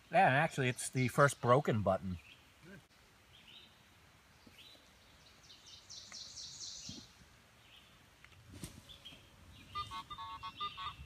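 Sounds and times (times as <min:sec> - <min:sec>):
bird chirping: 0:00.0 - 0:08.0, 0:08.8 - 0:11.0.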